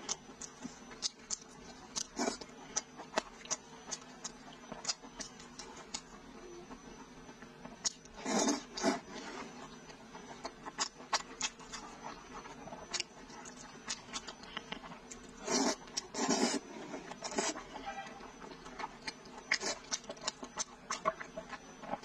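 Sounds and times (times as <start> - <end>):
wet chewing: 0.0 - 6.1, 7.8 - 22.0.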